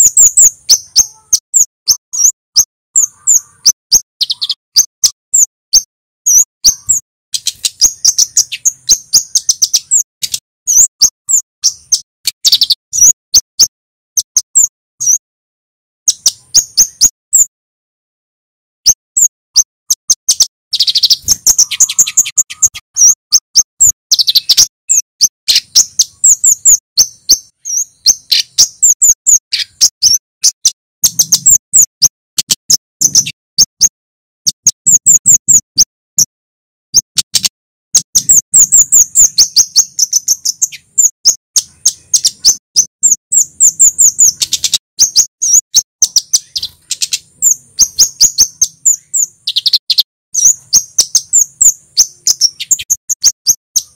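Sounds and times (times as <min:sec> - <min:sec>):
bird chirping sharp high notes: 0:00.0 - 0:15.2, 0:16.1 - 0:17.5, 0:18.8 - 0:36.3, 0:37.0 - 0:53.9.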